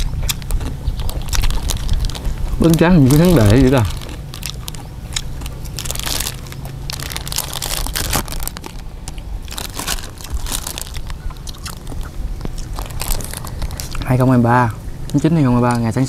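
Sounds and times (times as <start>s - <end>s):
crunching and chewing: 0.0s - 14.4s
plastic packet crinkling: 0.4s - 14.2s.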